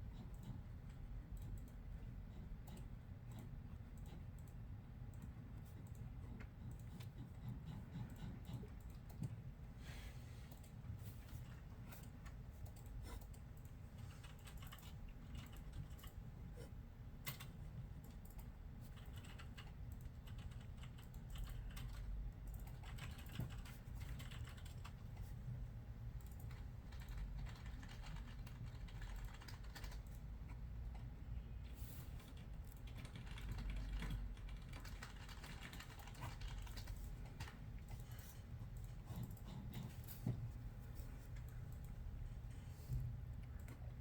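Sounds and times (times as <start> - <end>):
low room rumble: 0.0 - 44.0.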